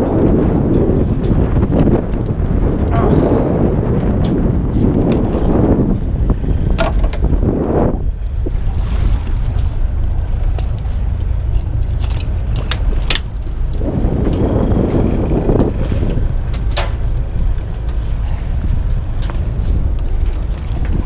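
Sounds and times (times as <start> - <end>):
boat engine rumbling: 0.0 - 21.0
wind on microphone: 0.0 - 21.0.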